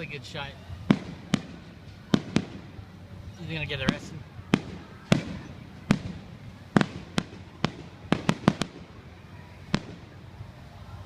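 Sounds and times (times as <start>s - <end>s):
fireworks bangs: 0.8s - 10.6s.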